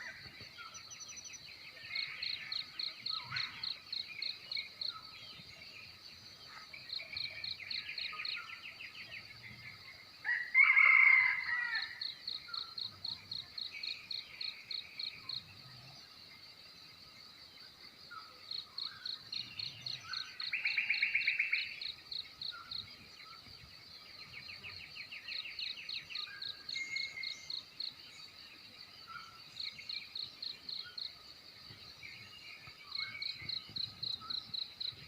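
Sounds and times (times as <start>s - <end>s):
birds calling and trilling: 0.0s - 16.2s, 18.0s - 35.0s
cricket chirping: 0.0s - 35.0s.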